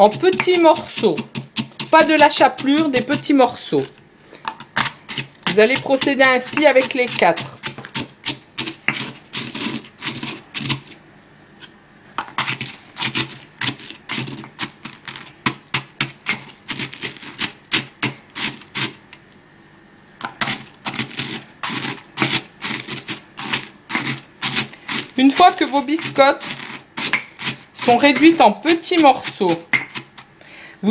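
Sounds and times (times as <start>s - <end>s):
pestle crushing rusks in mortar: 0.0s - 11.0s, 11.6s - 19.3s, 20.2s - 30.9s.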